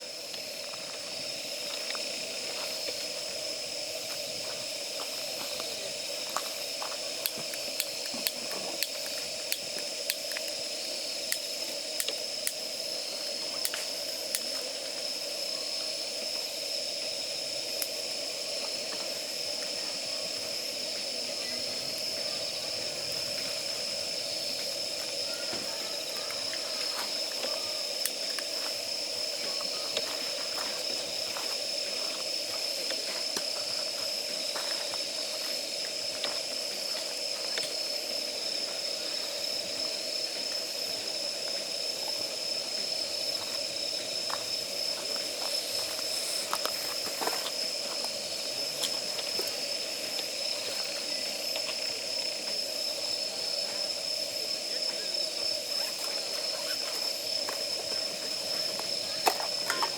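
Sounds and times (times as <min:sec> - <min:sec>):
gas burner flame hissing: 0:00.0 - 0:59.9.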